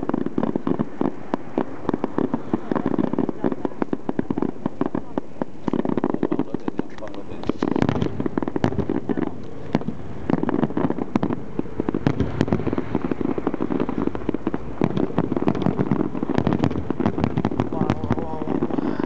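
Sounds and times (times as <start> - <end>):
fireworks bangs and crackles: 0.0 - 19.0
low rumble: 0.0 - 19.0.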